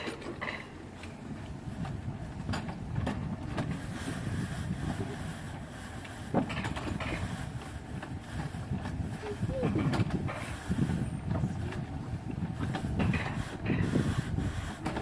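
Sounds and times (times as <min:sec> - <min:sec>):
coaster cart rumbling on track: 0:00.0 - 0:15.0.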